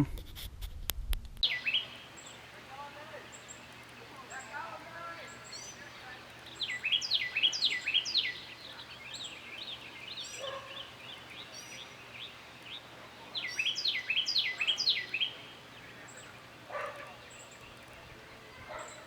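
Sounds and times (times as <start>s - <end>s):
bird chirps: 1.4s - 19.0s
bird singing: 1.4s - 19.0s.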